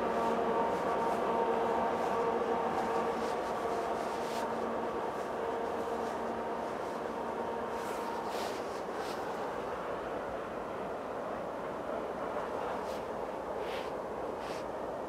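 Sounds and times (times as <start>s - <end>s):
diesel locomotive engine hum: 0.0s - 15.0s
train wheel and rail noise: 0.0s - 15.0s.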